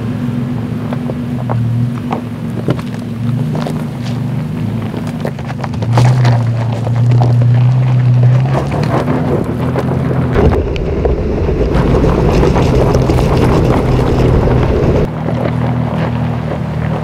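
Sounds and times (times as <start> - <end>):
suv engine pulling uphill: 0.0 - 17.0
tyres crunching over gravel: 0.7 - 17.0
wind buffeting microphone: 1.0 - 15.9.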